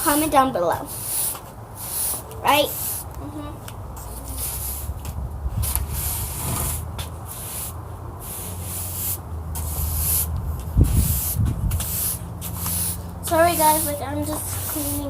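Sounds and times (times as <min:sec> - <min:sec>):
steady low hum: 0:00.0 - 0:15.0
sand being brushed: 0:00.1 - 0:03.1, 0:04.0 - 0:15.0.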